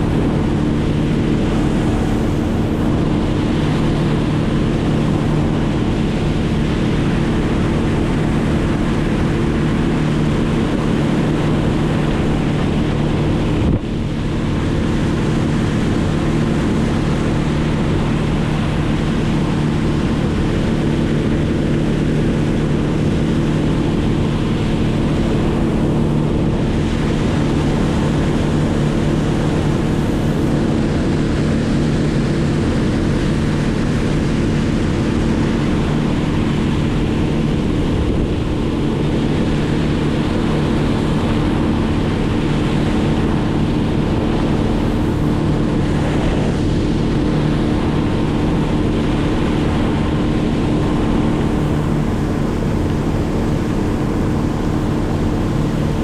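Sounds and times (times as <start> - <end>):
motor running steadily: 0.0 - 56.0
wind noise on microphone: 0.0 - 56.0.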